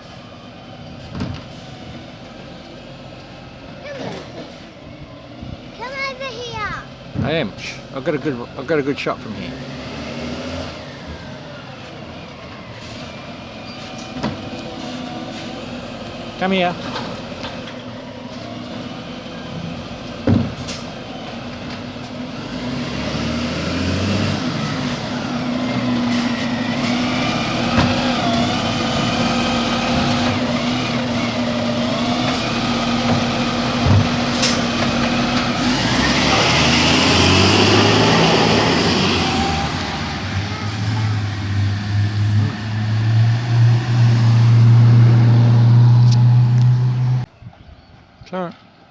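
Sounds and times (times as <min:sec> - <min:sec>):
garbage truck diesel engine revving: 0:05.7 - 0:47.3.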